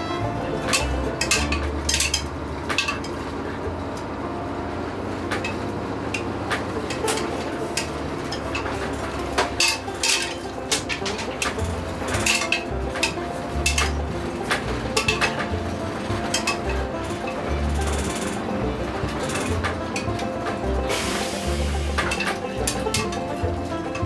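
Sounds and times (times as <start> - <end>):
hard objects clattering: 0.4 - 4.1, 5.1 - 24.0.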